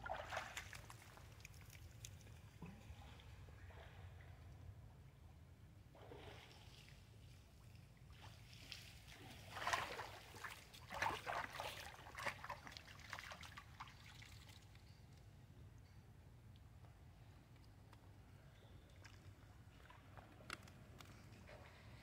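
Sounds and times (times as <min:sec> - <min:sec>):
water splashing and sloshing: 0:00.0 - 0:15.1, 0:18.9 - 0:22.0.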